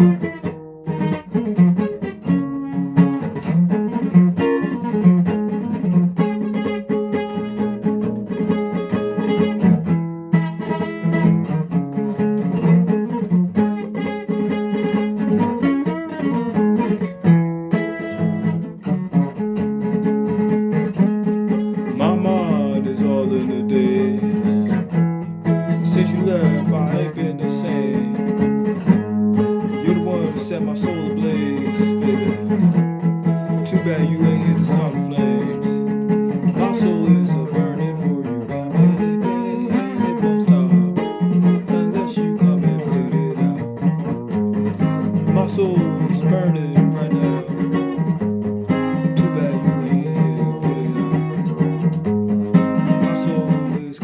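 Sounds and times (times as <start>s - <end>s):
guitar playing: 0.0s - 54.0s.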